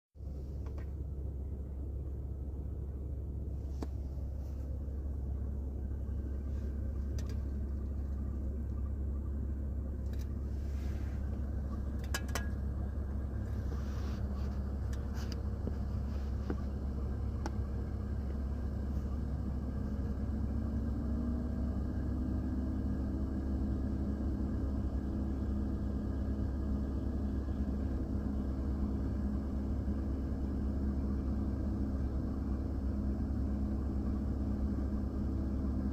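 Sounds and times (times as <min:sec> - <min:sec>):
low rumble inside truck cab: 0:00.1 - 0:35.9
steady humming tones: 0:00.2 - 0:35.9.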